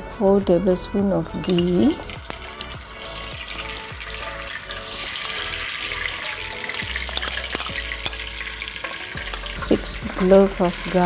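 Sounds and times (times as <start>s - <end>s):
electronic background music: 0.0s - 11.0s
ghee sizzling in a wok: 0.8s - 11.0s.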